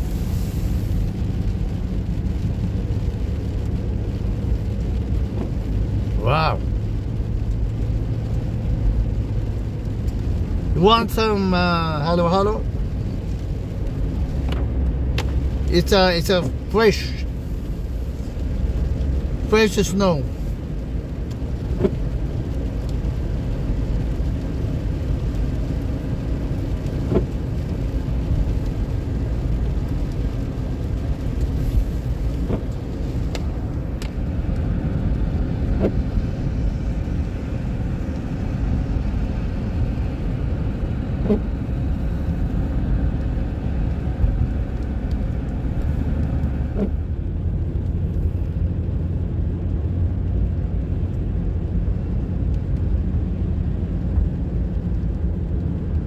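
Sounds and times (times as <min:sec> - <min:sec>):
tyre hiss on wet road: 0:00.0 - 0:49.0
car road noise rumble: 0:00.0 - 0:56.0.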